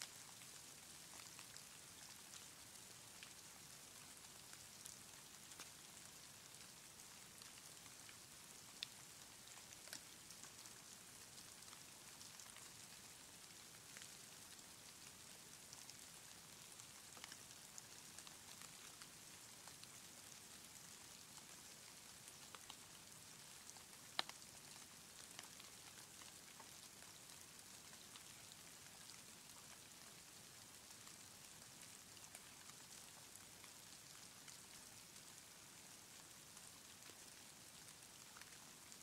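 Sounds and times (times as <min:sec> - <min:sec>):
soft steady hiss: 0:00.0 - 0:39.0.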